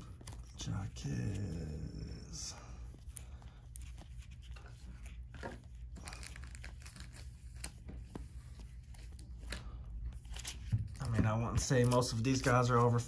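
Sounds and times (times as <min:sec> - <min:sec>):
plastic sleeves crinkling: 0:00.0 - 0:13.0
trading cards shuffling: 0:00.0 - 0:13.0.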